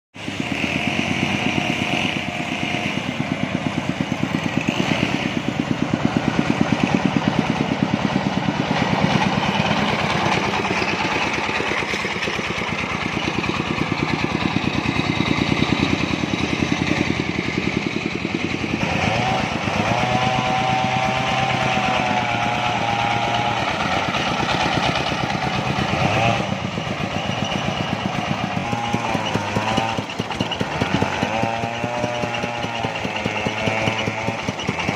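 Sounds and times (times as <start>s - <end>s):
portable sawmill engine ripping timber: 0.2s - 34.9s.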